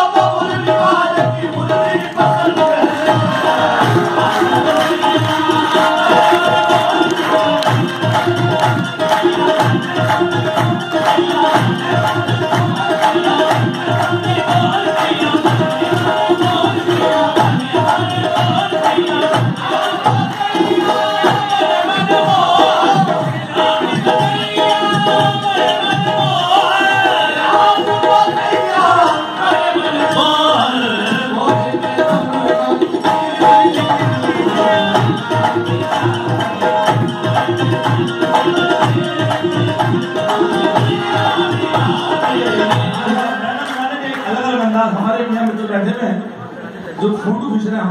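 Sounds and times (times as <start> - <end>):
harmonium melody: 0.0 - 44.5
man singing: 0.0 - 45.6
fast dholak rhythm: 0.0 - 46.4.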